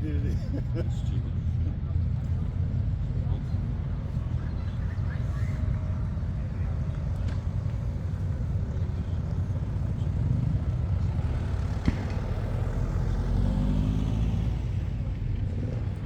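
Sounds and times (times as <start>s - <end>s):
motorcycle engines passing: 0.0s - 16.0s.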